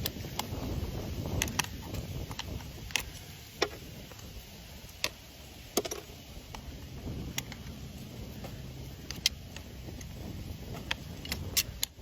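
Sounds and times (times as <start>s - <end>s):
hand tools clicking on hoof: 0.0s - 12.0s
low rumbling background: 0.0s - 12.0s.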